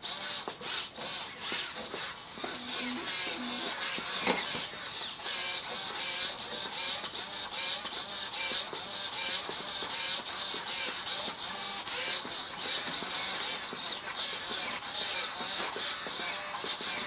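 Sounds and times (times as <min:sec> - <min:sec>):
servo motors whining: 0:00.0 - 0:17.0.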